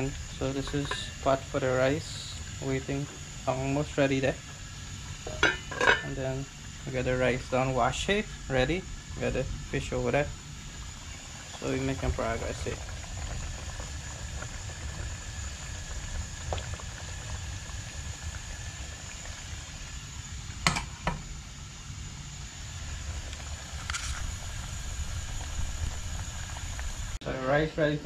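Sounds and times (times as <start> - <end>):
stove burner rumbling: 0.0 - 27.9.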